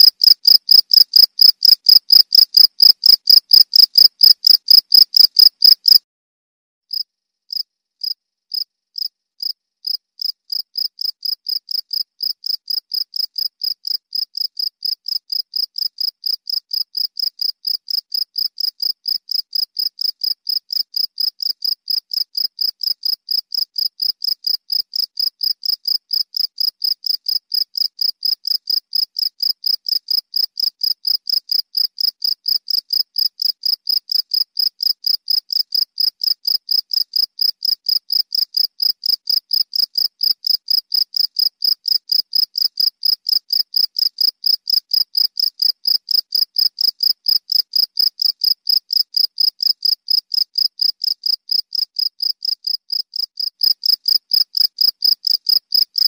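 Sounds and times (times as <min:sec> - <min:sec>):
cricket chirping: 0:00.0 - 0:06.0, 0:06.9 - 0:56.0.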